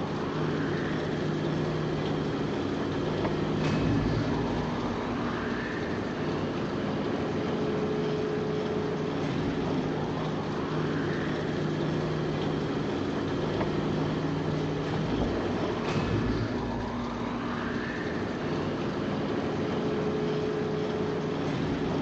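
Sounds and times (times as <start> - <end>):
rising whine: 0.0 - 21.2
engine hum: 0.0 - 22.0.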